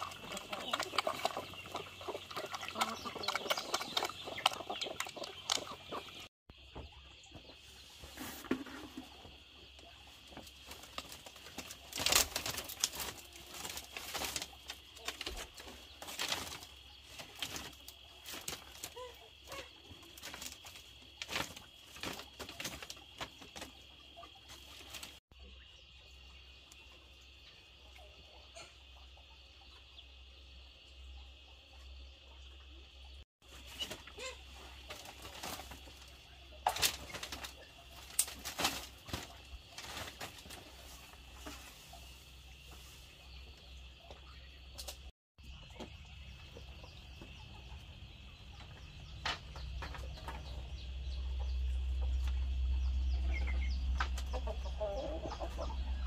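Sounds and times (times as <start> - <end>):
chickens clucking: 0.0 - 25.6, 27.0 - 30.0, 33.0 - 56.0.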